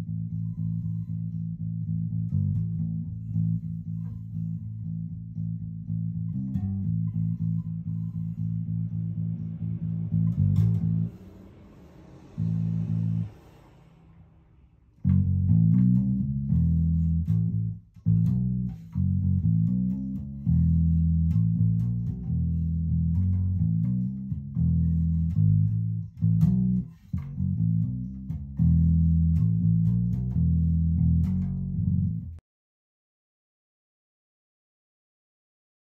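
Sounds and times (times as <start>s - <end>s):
electric bass guitar riffs: 0.0s - 13.6s, 15.0s - 32.4s.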